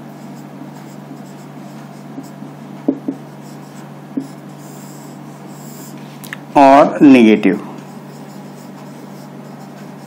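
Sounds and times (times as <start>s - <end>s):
marker scratching on whiteboard: 0.0s - 6.1s, 7.8s - 10.0s
steady low hum: 0.0s - 10.0s.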